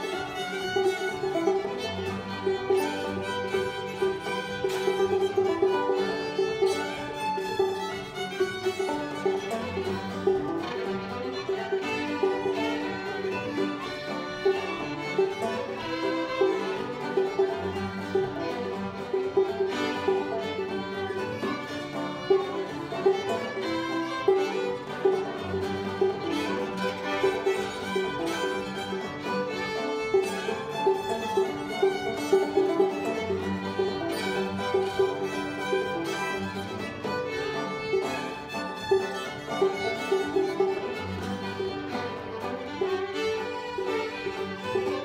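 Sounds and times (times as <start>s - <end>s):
banjo: 0.0s - 45.0s
fiddles bowing melody: 0.0s - 45.0s.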